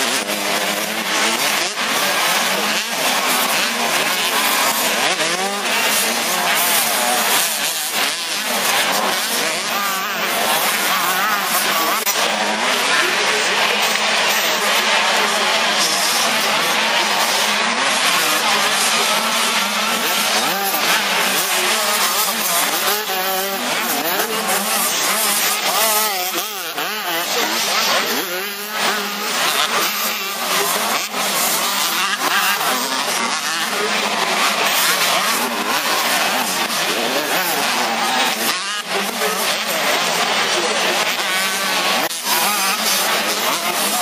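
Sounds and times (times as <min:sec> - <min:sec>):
motocross bike engines revving: 0:00.0 - 0:44.0.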